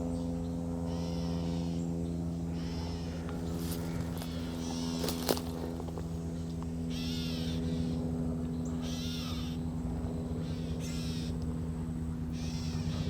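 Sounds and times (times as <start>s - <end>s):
steady low hum: 0.0s - 13.0s
bird harsh calls: 0.2s - 13.0s.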